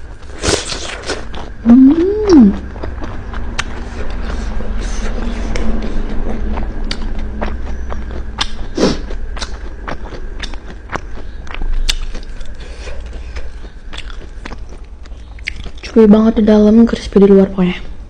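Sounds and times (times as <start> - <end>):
chewing crispy food: 0.0 - 16.8.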